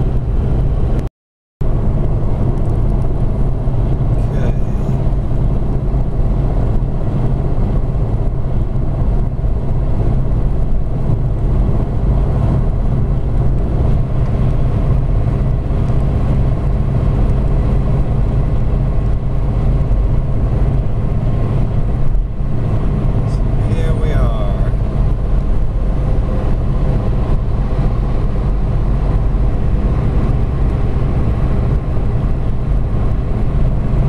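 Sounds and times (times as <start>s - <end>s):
car cruising drone inside cabin: 0.0s - 34.0s.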